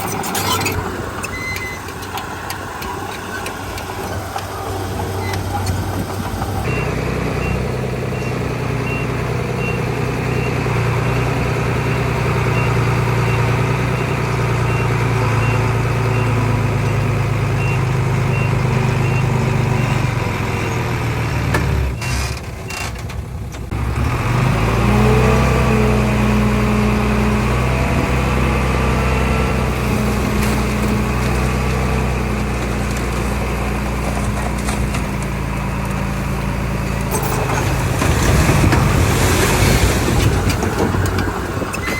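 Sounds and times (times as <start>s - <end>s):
heavy diesel engine under load: 0.0s - 41.9s.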